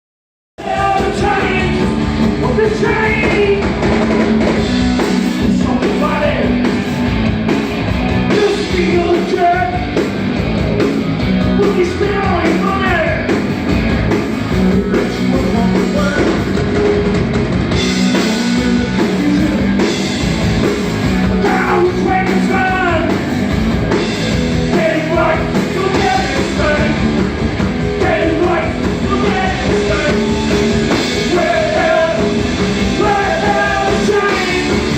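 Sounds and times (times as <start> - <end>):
rock band with singer: 0.6 - 34.9.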